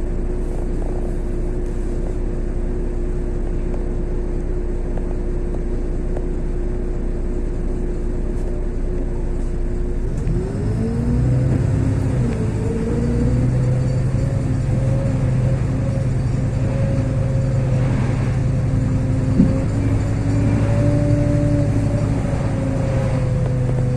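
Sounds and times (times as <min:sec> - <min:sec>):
bus engine whine: 0:00.0 - 0:23.9.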